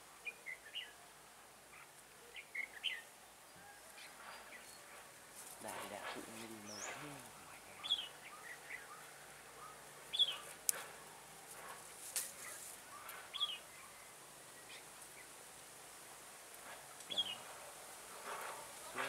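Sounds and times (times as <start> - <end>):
birds chirping: 1.7 - 15.5, 16.6 - 19.0.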